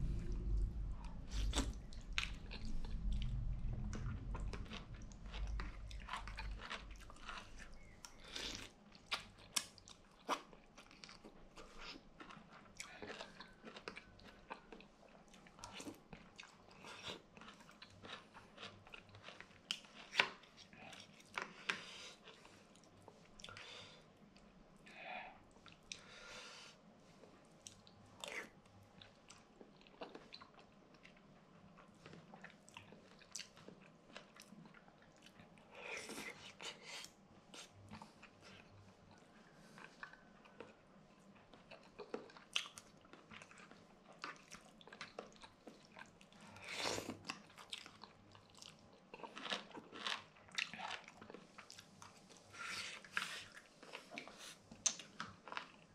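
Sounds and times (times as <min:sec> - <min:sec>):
person chewing noodles: 0:00.1 - 0:24.9, 0:25.5 - 0:55.9.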